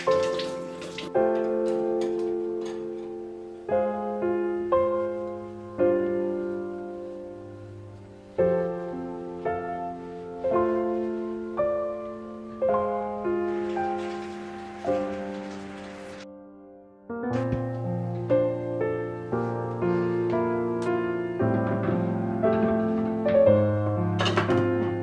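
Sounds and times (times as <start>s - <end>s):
gentle solo piano: 0.0s - 25.0s.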